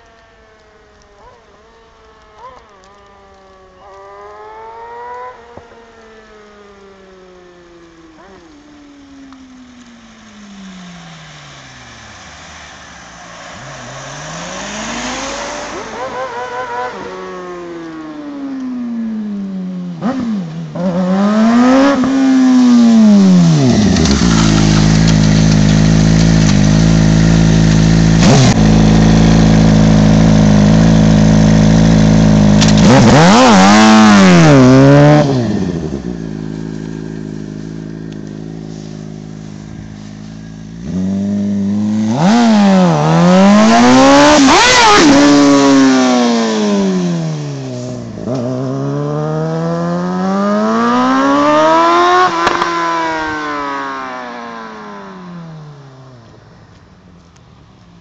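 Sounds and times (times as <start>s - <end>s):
motorcycle engine revving: 1.2s - 56.4s.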